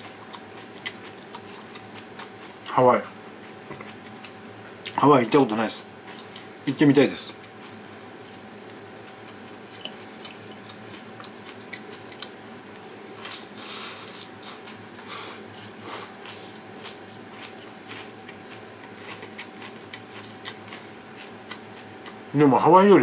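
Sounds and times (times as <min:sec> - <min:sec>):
chewing food: 0:00.0 - 0:05.0, 0:06.0 - 0:06.6, 0:07.3 - 0:22.3
faint steady hum: 0:00.0 - 0:23.0.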